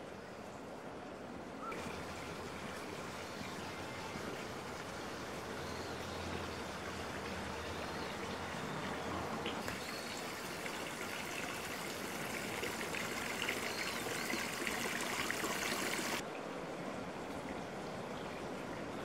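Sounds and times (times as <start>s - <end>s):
water running and trickling: 1.7s - 19.0s.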